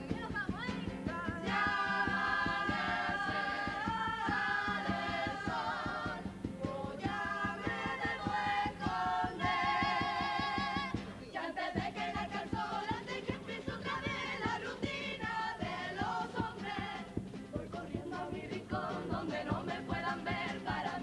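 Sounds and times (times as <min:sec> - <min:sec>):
fast steady beat: 0:00.0 - 0:21.0
strummed guitars: 0:00.0 - 0:21.0
choir singing in close harmony: 0:01.4 - 0:21.0.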